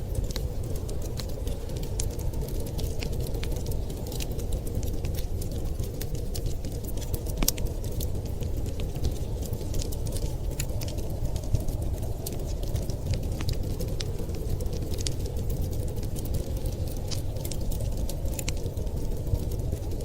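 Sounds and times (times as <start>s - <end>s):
blizzard wind rumbling: 0.0s - 20.0s
wood fire crackling: 0.0s - 20.0s.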